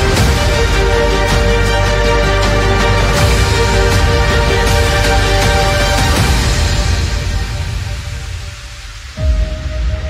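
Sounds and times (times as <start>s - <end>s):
electronic ambient music: 0.0s - 10.0s
sharp percussion hits: 0.0s - 10.0s.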